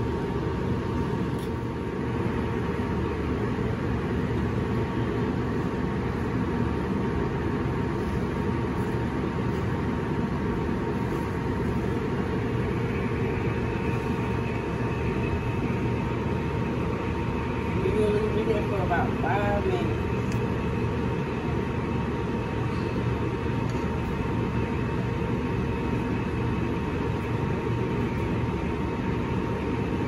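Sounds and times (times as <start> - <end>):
faint steady hum: 0.0 - 30.0
gas burner roaring: 0.0 - 30.0.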